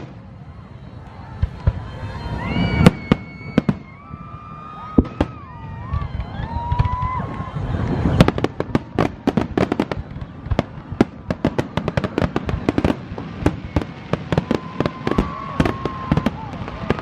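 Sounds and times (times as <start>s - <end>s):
fireworks cracks and booms: 0.0s - 17.0s
fireworks whistling: 0.0s - 17.0s.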